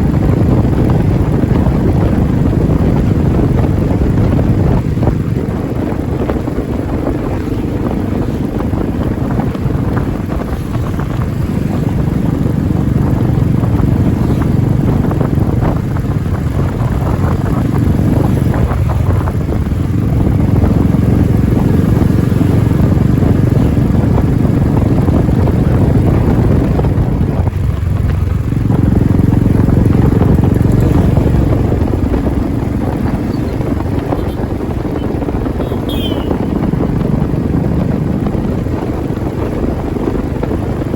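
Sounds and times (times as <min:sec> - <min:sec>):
motorcycle engine thumping: 0:00.0 - 0:40.8
wind buffeting microphone: 0:00.0 - 0:40.9.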